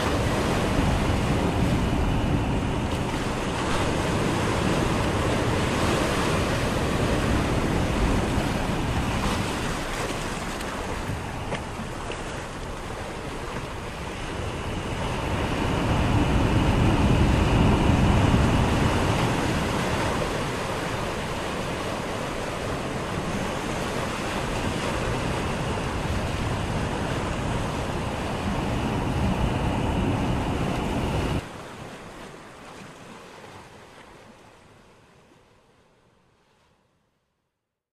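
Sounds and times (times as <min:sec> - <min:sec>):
wind rumbling on microphone: 0:00.0 - 0:31.6
sea waves breaking on sand: 0:00.0 - 0:35.6.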